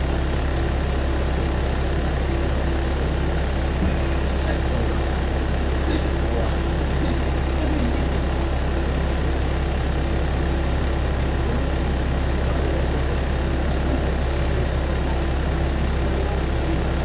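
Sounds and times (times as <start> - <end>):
railcar engine hum: 0.0 - 17.0
train running noise: 0.0 - 17.0.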